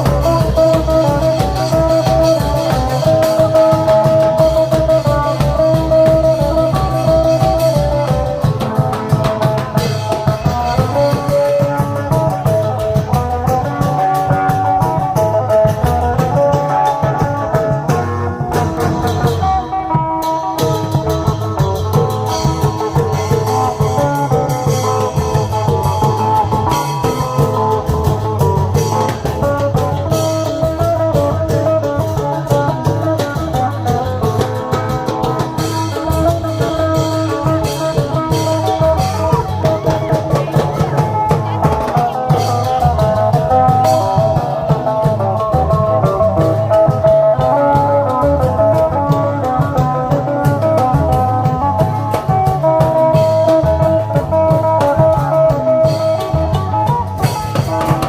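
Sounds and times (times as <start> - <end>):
continuous drumming: 0.0 - 58.0.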